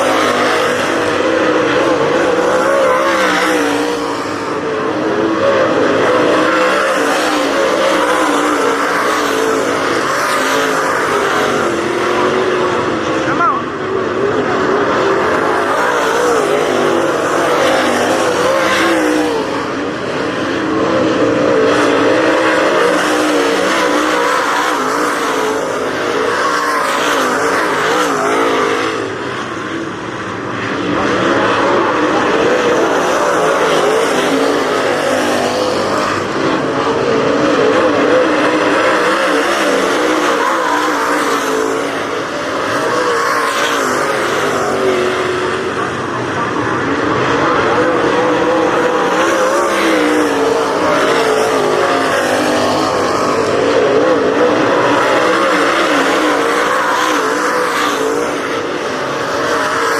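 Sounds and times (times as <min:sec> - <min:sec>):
race car engines running hard: 0:00.0 - 0:59.9.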